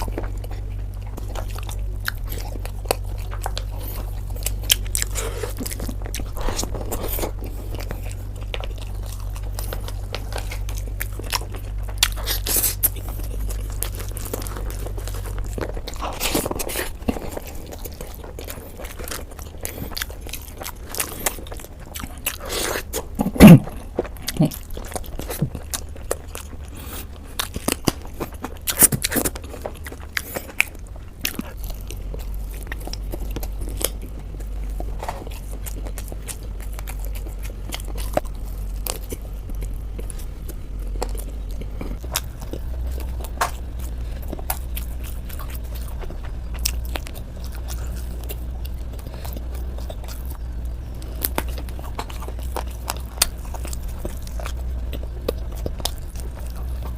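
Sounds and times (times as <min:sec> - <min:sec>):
low steady hum: 0:00.0 - 0:56.9
person chewing crunchy food: 0:00.0 - 0:56.9.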